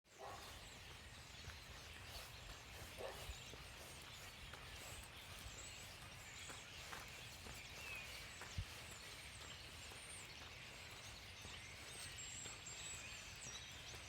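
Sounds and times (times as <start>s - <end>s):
small birds chirping: 0.1s - 14.0s.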